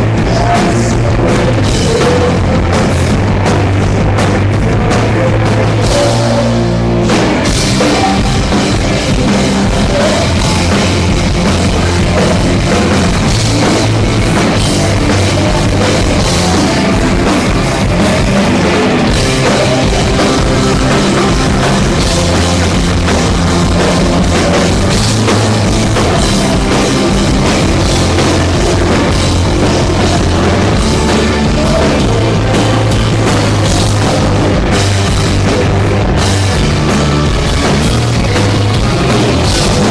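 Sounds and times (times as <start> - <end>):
drum kit: 0.0 - 39.9
moving bass line: 0.0 - 39.9
rock band playing live: 0.0 - 39.9.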